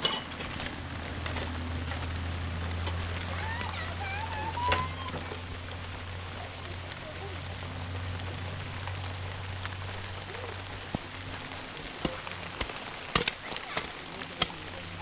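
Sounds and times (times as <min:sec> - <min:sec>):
low steady rumble: 0:00.0 - 0:15.0
rain on plastic sheeting: 0:00.0 - 0:15.0.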